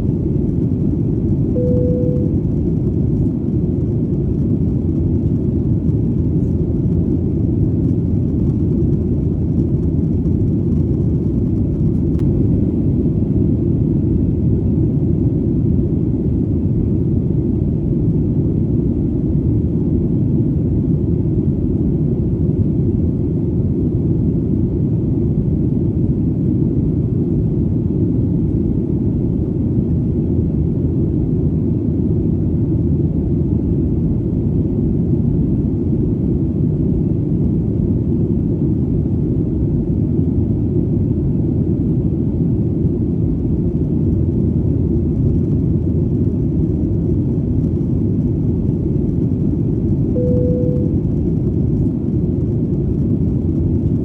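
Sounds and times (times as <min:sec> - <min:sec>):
airplane droning in flight: 0:00.0 - 0:54.0.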